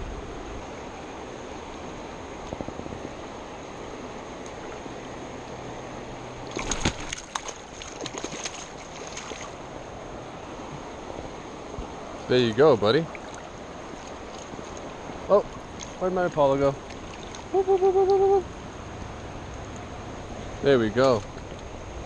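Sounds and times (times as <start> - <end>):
fast river rushing: 0.0 - 22.0.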